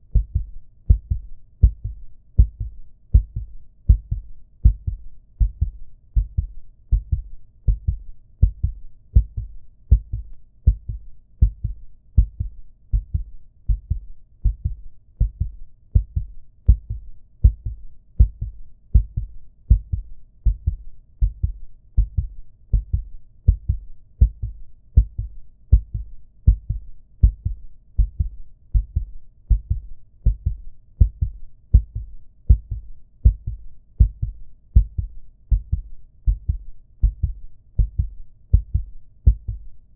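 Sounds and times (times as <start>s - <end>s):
heartbeat thumps: 0.1s - 39.8s.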